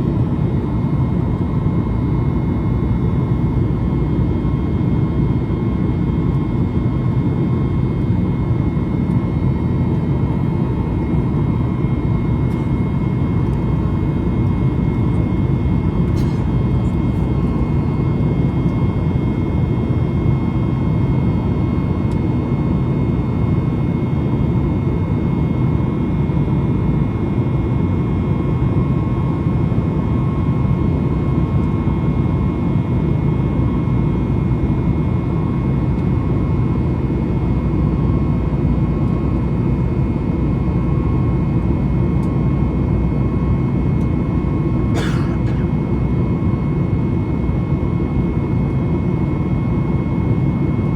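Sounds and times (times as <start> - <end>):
jet engine roar in cabin: 0.0 - 50.9.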